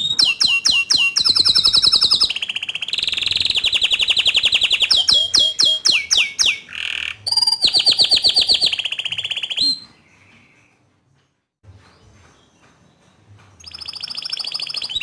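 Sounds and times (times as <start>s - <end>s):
canary singing trills: 0.0s - 10.9s, 11.8s - 15.0s.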